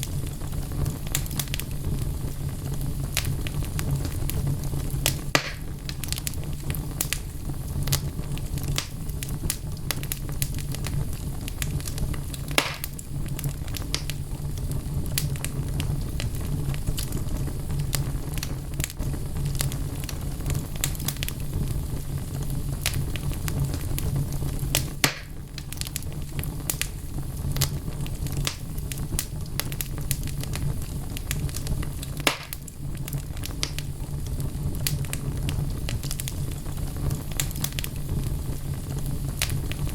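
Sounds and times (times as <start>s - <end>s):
logs crackling and popping: 0.0s - 39.9s
low rumble of flame: 0.0s - 39.9s.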